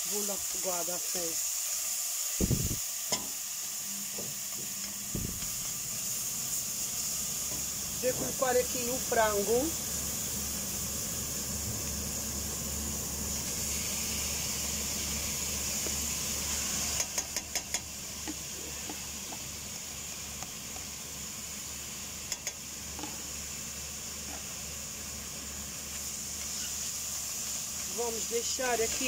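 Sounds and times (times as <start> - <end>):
onion and garlic sizzling in oil: 0.0 - 29.0.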